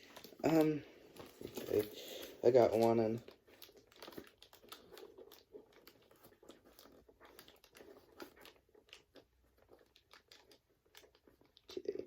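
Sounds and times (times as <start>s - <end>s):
packaging crinkling and clicking: 0.0s - 11.8s.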